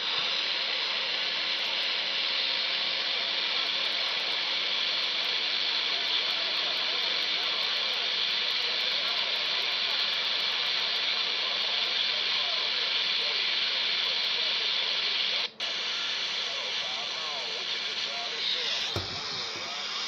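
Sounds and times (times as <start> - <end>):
radio receiver static hiss: 0.0 - 20.0.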